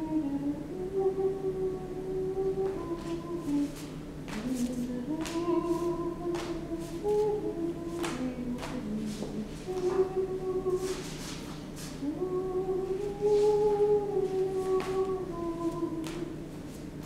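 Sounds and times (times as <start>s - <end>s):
person humming a slow tune: 0.0s - 17.0s.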